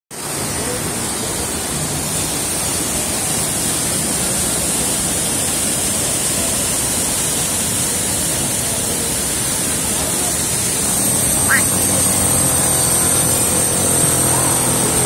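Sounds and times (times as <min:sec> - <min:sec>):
waterfall rushing: 0:00.2 - 0:15.0.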